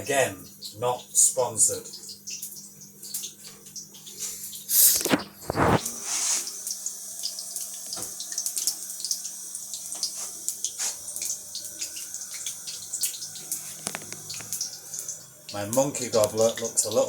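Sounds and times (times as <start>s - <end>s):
deep-frying sizzle with crackles: 0.0s - 17.0s.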